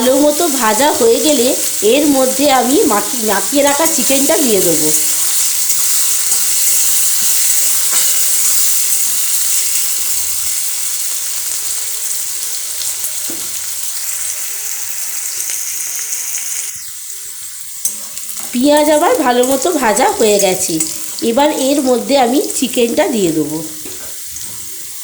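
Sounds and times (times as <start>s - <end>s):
onion frying in oil: 0.0s - 25.0s.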